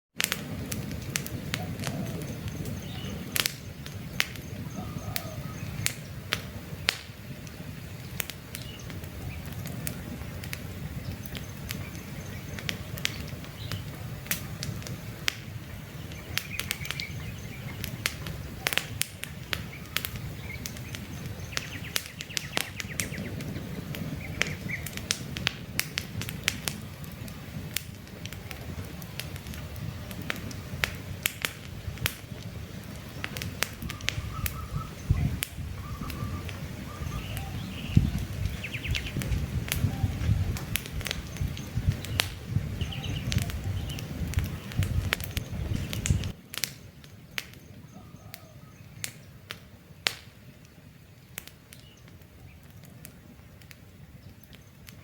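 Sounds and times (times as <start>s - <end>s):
campfire crackling and popping: 0.1s - 55.0s
birds chirping: 1.3s - 25.2s, 28.2s - 55.0s.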